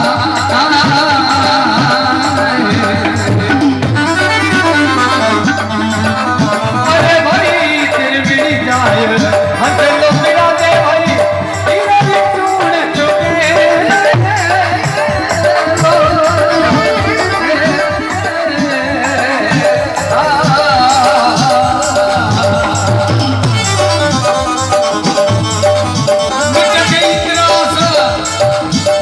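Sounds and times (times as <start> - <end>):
hand drum: 0.0 - 29.0
person singing: 0.0 - 29.0
rattling percussion: 0.0 - 29.0.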